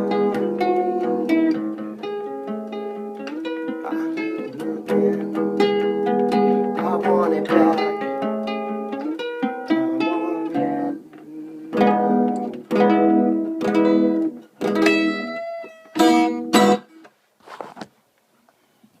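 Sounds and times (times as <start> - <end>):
guitar strumming chords: 0.0 - 17.1.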